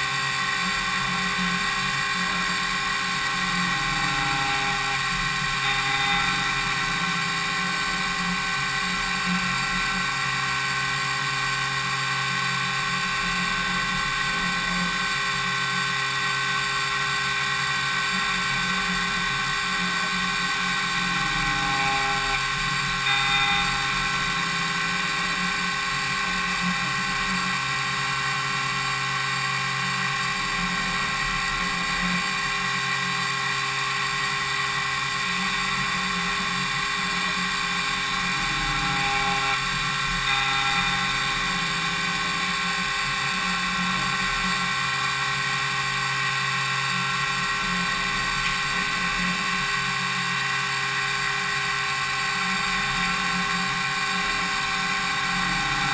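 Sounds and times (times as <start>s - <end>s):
milling machine high-pitched whine: 0.0s - 55.9s.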